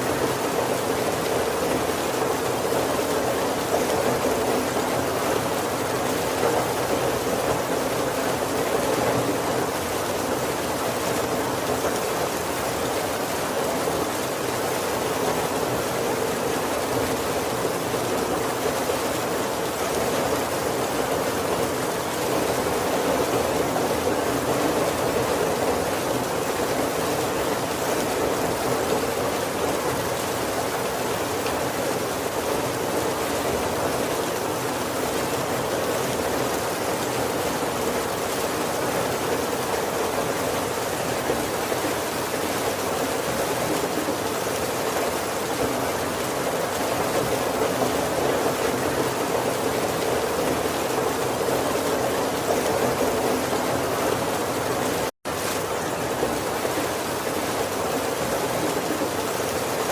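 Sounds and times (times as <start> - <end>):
heavy rain on wooden roof: 0.0 - 59.9.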